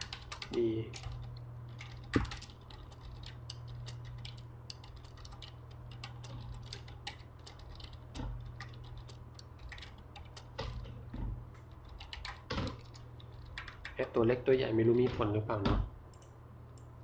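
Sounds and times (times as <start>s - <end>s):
keyboard keys clicking: 0.0s - 14.2s.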